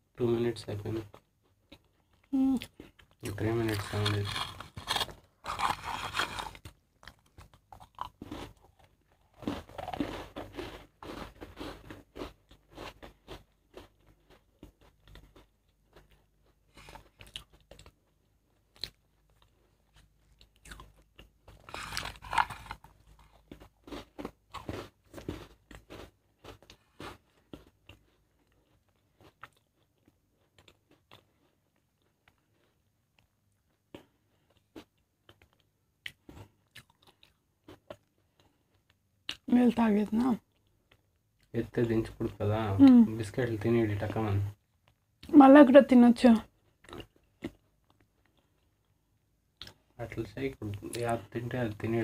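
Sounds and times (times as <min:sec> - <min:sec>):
person crunching biscuits: 0:00.9 - 0:39.5, 0:46.5 - 0:50.0.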